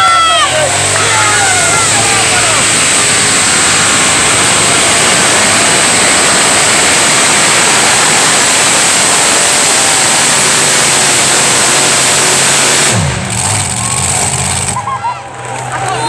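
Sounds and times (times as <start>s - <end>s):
pulling tractor at full throttle: 0.0s - 16.0s.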